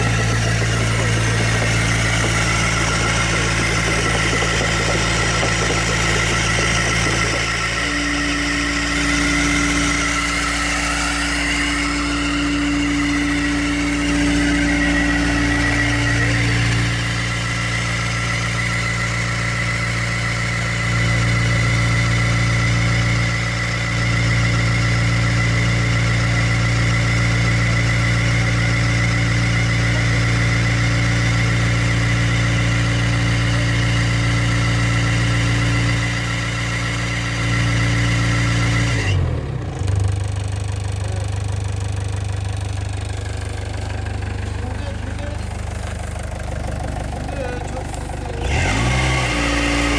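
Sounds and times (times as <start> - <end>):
excavator diesel engine running: 0.0 - 49.9
steady high whine: 0.0 - 49.9.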